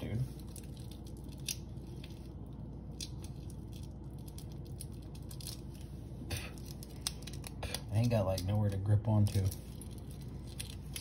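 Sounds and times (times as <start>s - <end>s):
steady low hum: 0.0s - 11.0s
plastic wrap clicks and crinkles: 0.3s - 11.0s.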